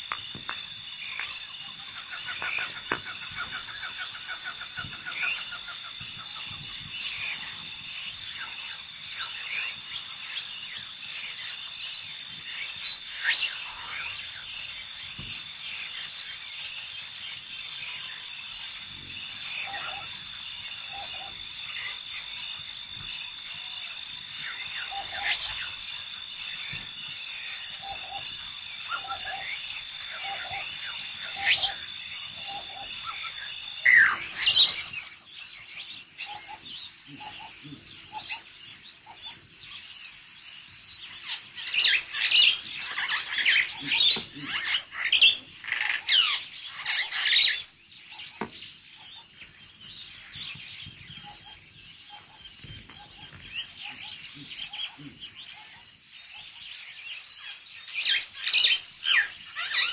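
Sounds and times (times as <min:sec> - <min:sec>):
frogs croaking: 0:00.0 - 0:59.9
small birds chirping: 0:00.0 - 0:59.9.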